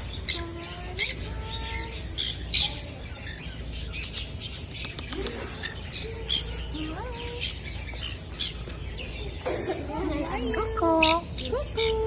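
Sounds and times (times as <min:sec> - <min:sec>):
pet birds chirping and squawking: 0:00.0 - 0:12.0.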